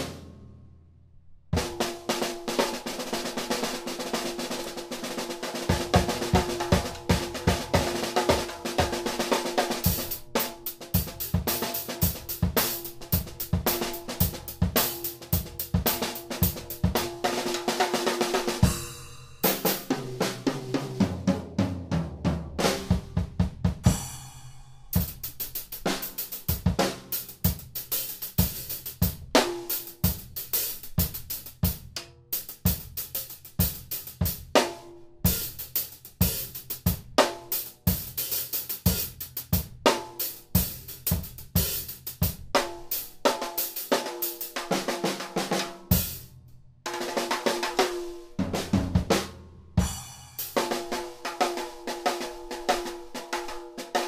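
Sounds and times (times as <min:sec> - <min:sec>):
drum kit groove: 0:00.0 - 0:00.6, 0:01.5 - 0:54.0
fill on low ringing drums: 0:01.6 - 0:54.0.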